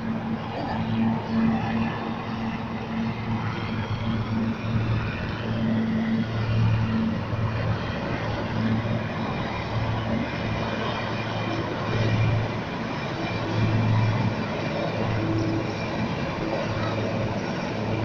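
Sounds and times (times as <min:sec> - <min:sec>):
helicopters flying overhead: 0:00.0 - 0:18.0.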